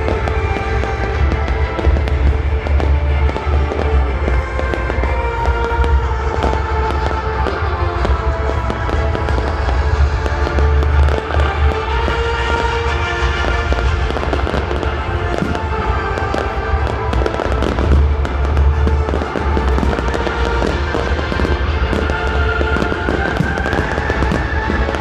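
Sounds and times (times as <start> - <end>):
fireworks crackling and booming: 0.0 - 25.0
music with held tones: 0.0 - 25.0.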